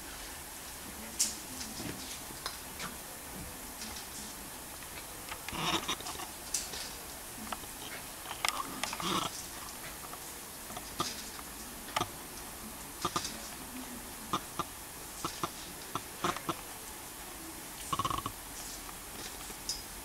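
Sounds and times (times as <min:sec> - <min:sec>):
sprinkler water jet hissing: 0:00.0 - 0:20.0.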